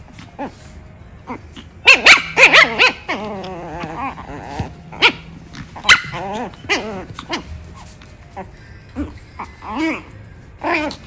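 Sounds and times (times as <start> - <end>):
puppy growling: 0.1 - 11.0
puppies yipping: 1.3 - 11.0.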